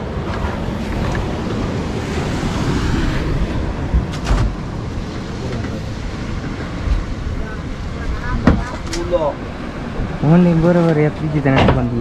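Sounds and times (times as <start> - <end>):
sea noise: 0.0 - 12.0
wind buffeting microphone: 0.0 - 12.0.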